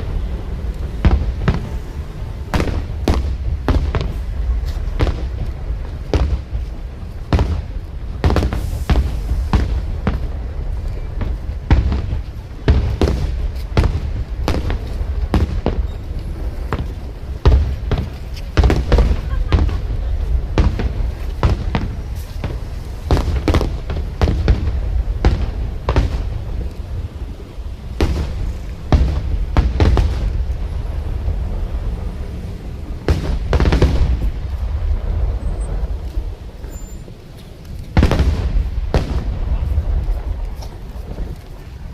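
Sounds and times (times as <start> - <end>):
fireworks booms and bangs: 0.0 - 37.1, 37.8 - 41.9
low rumble: 0.0 - 41.9.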